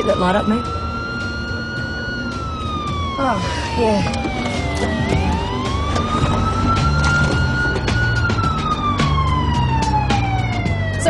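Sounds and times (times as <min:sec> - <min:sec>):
low pulsing beat: 0:00.0 - 0:11.0
police siren wailing: 0:00.0 - 0:11.0.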